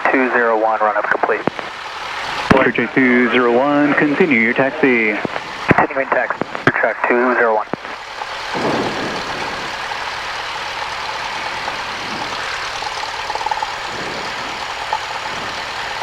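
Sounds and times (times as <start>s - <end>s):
aircraft piston engine running: 0.0s - 16.0s.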